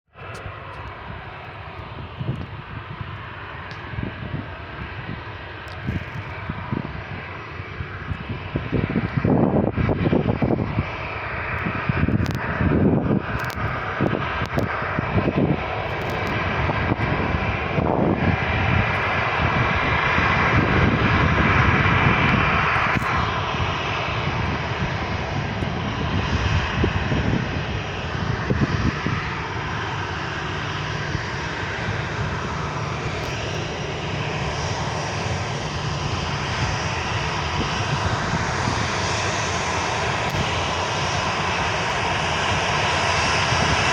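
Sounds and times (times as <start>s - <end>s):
jet engines roaring: 0.1s - 43.9s.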